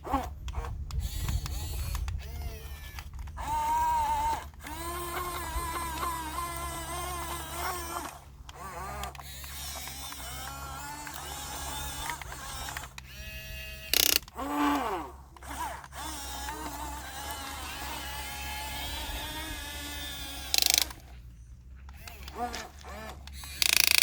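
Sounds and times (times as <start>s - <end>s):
toy excavator motors whining: 0.0s - 24.0s.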